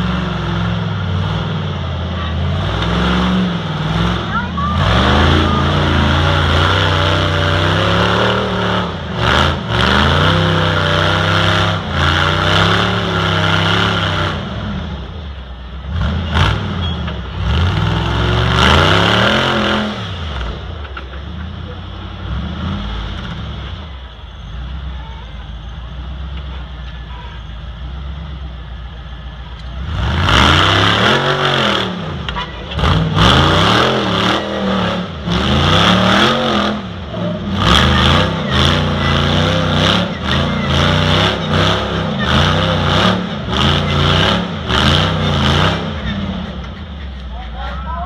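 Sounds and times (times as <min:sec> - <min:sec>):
buggy engine revving: 0:00.0 - 0:48.0.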